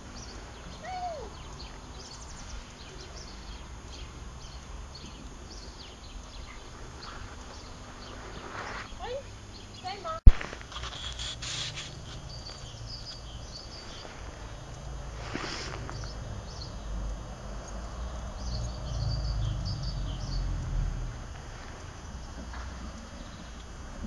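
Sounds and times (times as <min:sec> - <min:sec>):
small birds chirping: 0:00.0 - 0:17.0, 0:17.6 - 0:20.6.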